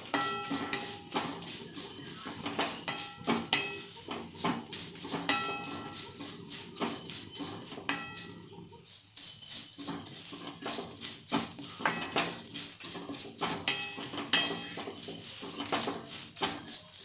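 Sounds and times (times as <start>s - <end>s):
dry flakes rustling: 0.0s - 17.0s
wooden spatula scraping metal pan: 0.0s - 17.0s.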